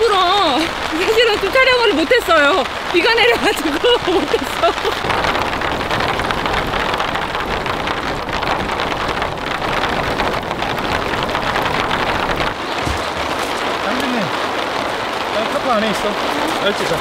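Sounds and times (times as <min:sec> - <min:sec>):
heavy rain on a tarp: 0:00.0 - 0:17.0.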